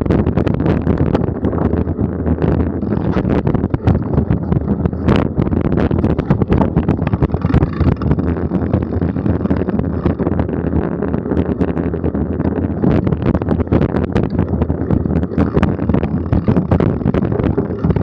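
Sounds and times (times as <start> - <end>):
bike rattling on bumpy trail: 0.0 - 18.0
wind buffeting microphone: 0.0 - 18.0.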